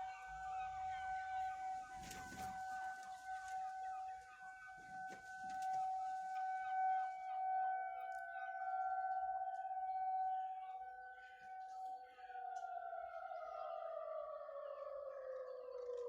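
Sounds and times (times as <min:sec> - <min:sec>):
outdoor warning siren steady tone: 0:00.0 - 0:16.0.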